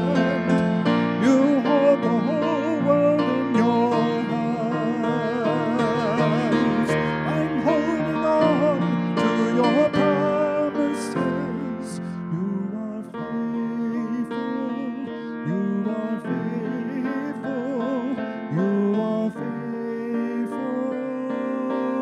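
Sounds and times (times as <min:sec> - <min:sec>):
man singing with vibrato: 0:00.0 - 0:22.0
slow piano accompaniment: 0:00.0 - 0:22.0.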